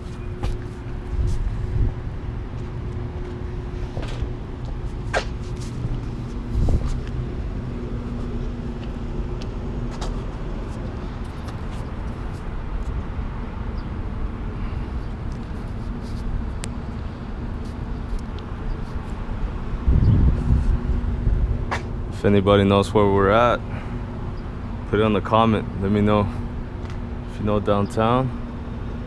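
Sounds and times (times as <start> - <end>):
city background rumble: 0.0 - 29.0
constant low hum: 0.0 - 29.0.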